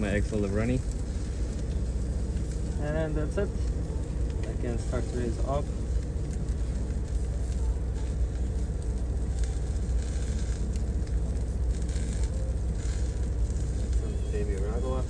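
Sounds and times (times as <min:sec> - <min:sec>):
egg sizzling in a skillet: 0:00.0 - 0:15.0
truck engine idling: 0:00.0 - 0:15.0.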